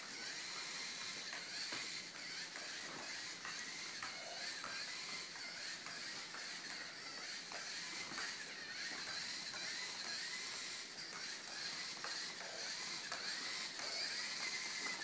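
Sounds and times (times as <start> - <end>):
robot servo motors whirring: 0.0 - 15.0.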